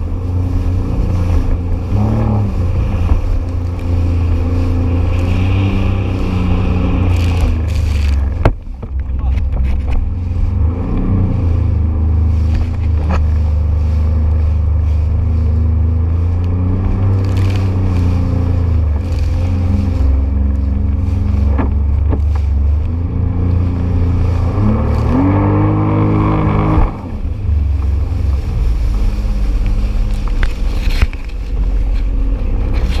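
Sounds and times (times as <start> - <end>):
jet ski engine running: 0.0 - 33.0.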